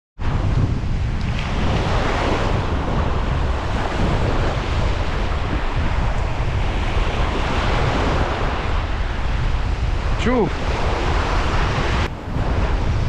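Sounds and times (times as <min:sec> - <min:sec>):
sea waves washing onto beach: 0:00.2 - 0:13.0
wind buffeting microphone: 0:00.2 - 0:13.0.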